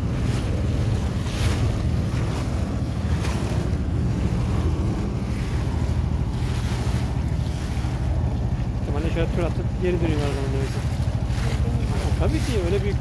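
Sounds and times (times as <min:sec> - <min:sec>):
boat motor running: 0:00.0 - 0:13.0
wind gusting on microphone: 0:00.0 - 0:13.0.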